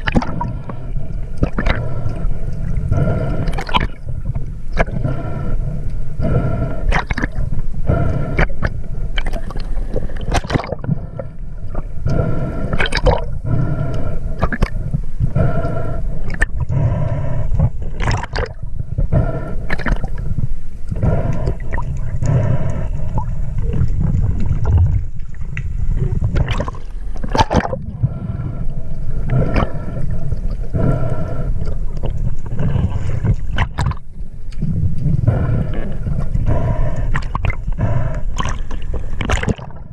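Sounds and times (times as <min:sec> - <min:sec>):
steady low rumble: 0:00.0 - 0:39.9
water gurgling and sloshing: 0:00.0 - 0:39.9.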